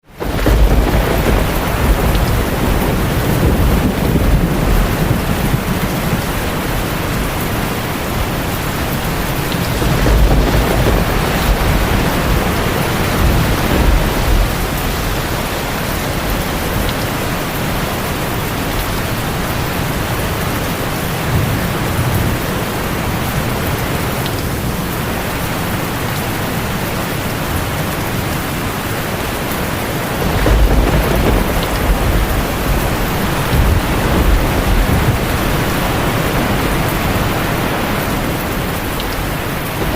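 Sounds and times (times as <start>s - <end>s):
heavy rain: 0.0s - 39.9s
low rolling thunder: 0.1s - 26.0s, 27.2s - 39.9s.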